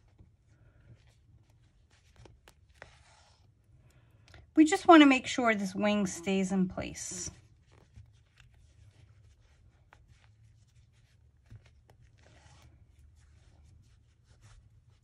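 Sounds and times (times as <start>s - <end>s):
needle and thread drawn through fabric: 0.0s - 15.0s.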